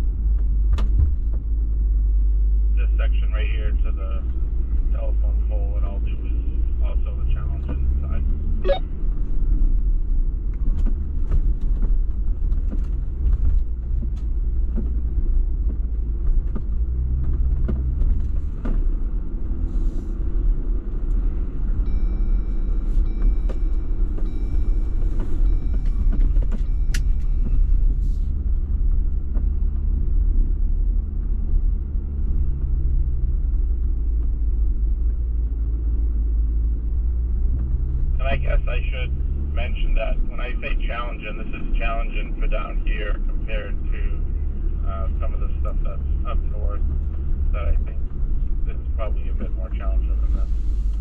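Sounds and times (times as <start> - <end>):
engine rumbling at low speed: 0.0 - 51.0.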